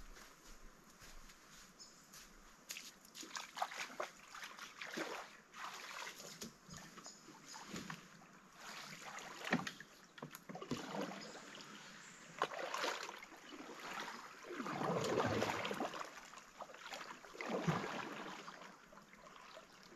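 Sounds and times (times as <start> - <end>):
paddle strokes through water: 2.7 - 19.9.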